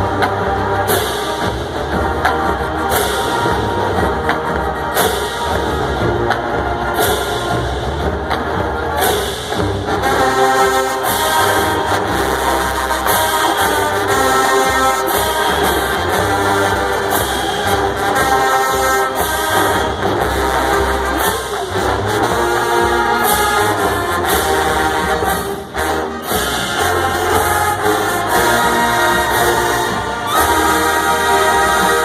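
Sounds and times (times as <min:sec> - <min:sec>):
marching band playing: 0:00.0 - 0:32.0.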